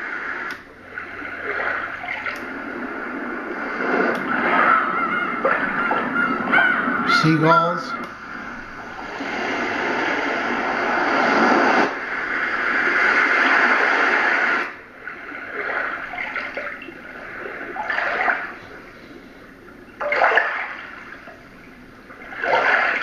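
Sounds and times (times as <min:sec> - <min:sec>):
recorded ocean surf: 0:00.0 - 0:23.0.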